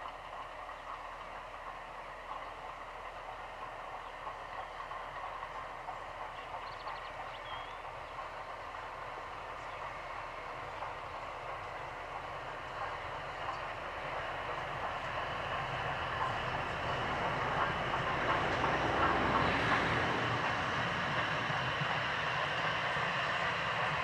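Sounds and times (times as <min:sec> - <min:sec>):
train rumbling past: 0:00.0 - 0:24.0.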